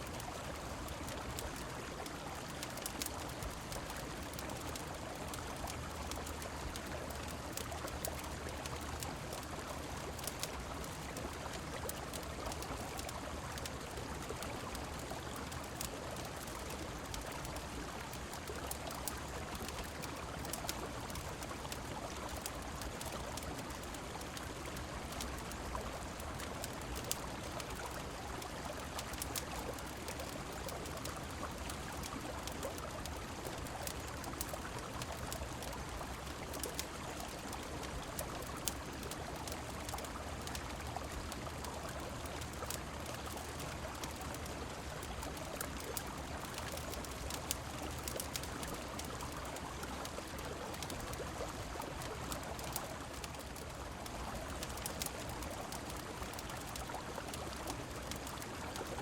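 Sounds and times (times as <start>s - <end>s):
rain falling: 0.0s - 59.0s
wood fire crackling: 0.0s - 59.0s.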